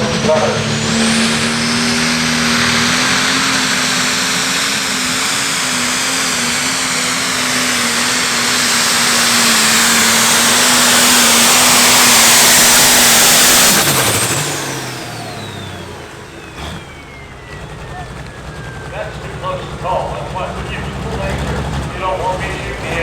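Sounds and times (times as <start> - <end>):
diesel tractor engine under load: 0.0 - 23.0.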